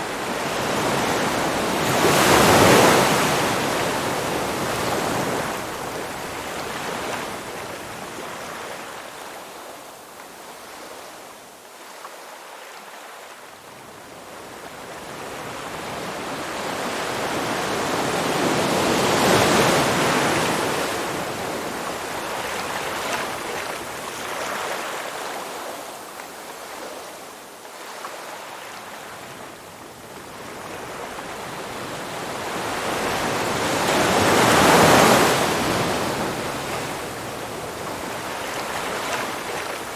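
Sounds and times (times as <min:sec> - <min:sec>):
ocean waves breaking and washing back: 0:00.0 - 0:39.9.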